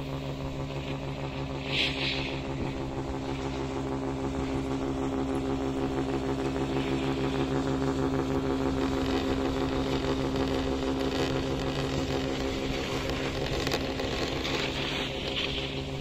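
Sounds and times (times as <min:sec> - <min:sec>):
chairlift mechanical hum: 0:00.0 - 0:16.0.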